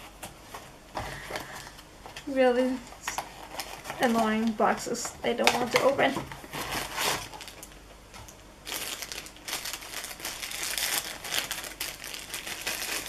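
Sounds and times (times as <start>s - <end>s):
packaging crinkling and tearing: 1.2s - 7.8s, 8.6s - 13.0s.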